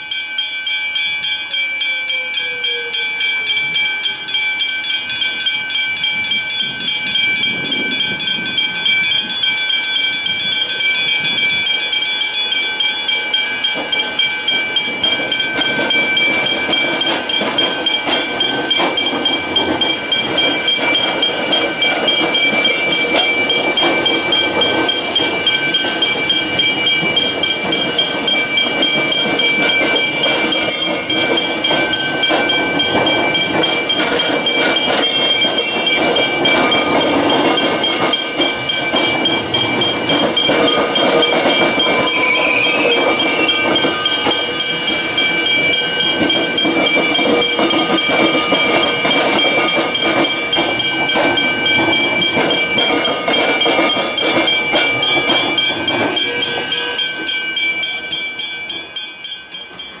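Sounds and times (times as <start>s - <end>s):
crossing bells ringing: 0.0s - 60.0s
train wheels clattering over crossing: 0.1s - 60.0s.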